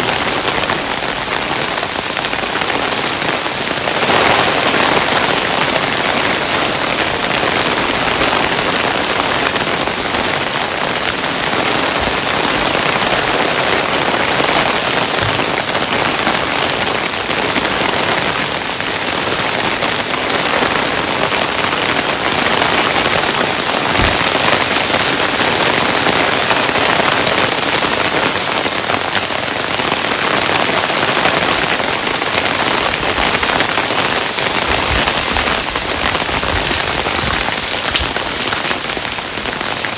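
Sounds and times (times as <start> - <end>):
hailstones pattering: 0.1 - 18.3, 19.7 - 39.9.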